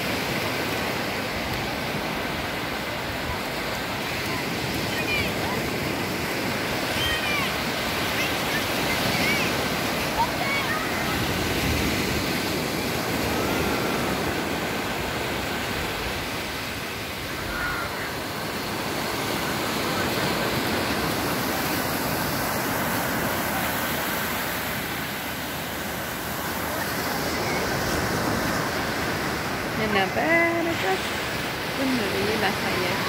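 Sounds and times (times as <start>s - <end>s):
small waves breaking on sand: 0.0s - 33.0s.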